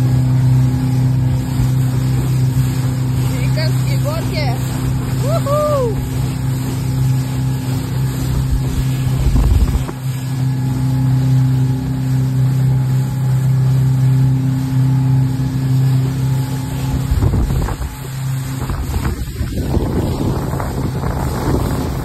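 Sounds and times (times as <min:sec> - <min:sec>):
heavy water splashes: 0:00.0 - 0:22.0
hull slapping through waves: 0:00.0 - 0:22.0
outboard motor droning: 0:00.0 - 0:22.0.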